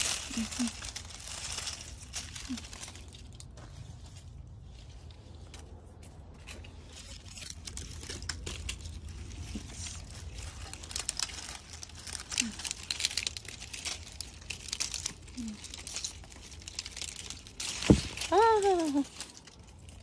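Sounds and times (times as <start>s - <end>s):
plastic netting and leaves rustling: 0.0s - 20.0s.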